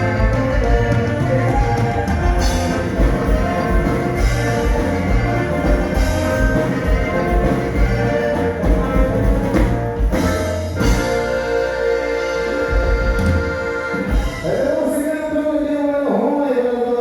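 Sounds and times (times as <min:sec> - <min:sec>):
band music with drums: 0:00.0 - 0:15.8.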